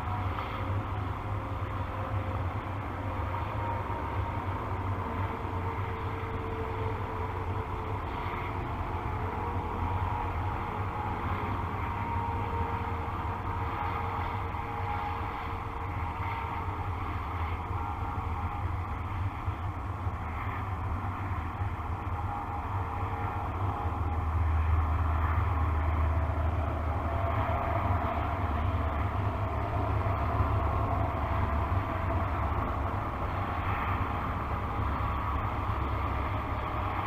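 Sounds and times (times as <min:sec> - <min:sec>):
distant engine rumble: 0:00.0 - 0:37.0.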